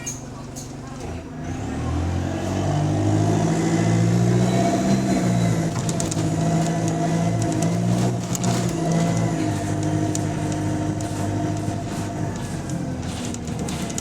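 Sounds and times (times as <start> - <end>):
bus engine pulling away: 0.0 - 14.0.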